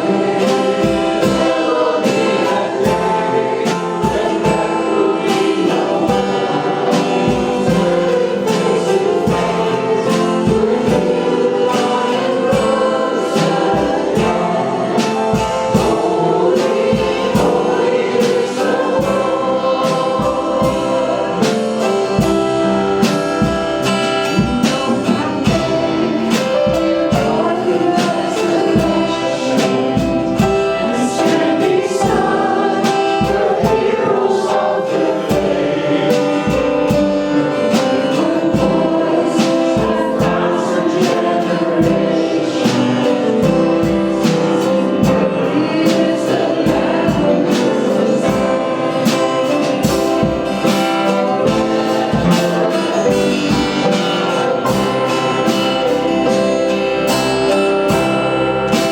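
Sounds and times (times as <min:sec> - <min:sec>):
group singing gospel worship song: 0:00.0 - 0:58.9
instrumental accompaniment with beat: 0:00.0 - 0:58.9.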